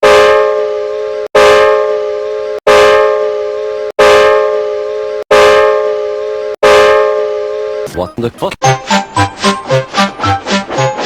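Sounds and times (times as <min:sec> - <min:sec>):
train whistle chord: 0:00.0 - 0:07.9, 0:08.7 - 0:11.0.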